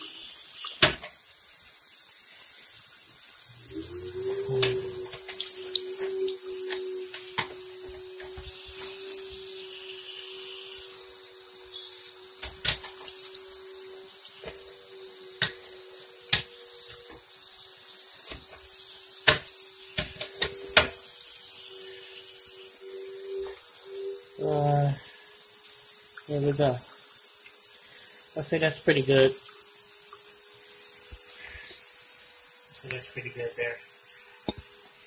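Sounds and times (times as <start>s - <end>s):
steady hum: 3.4s - 35.0s.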